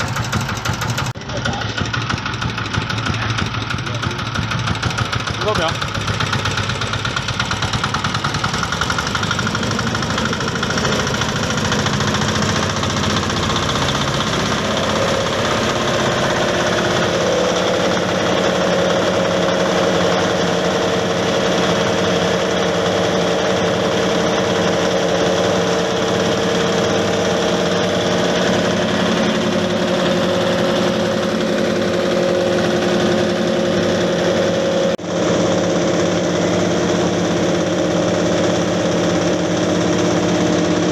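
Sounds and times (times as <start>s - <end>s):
grinding machine roar: 0.0s - 40.9s.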